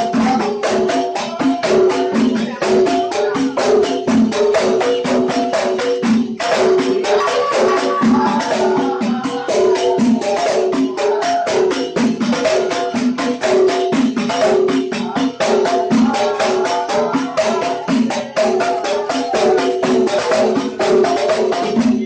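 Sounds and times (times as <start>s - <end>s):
frame drums beaten fast: 0.0s - 22.0s.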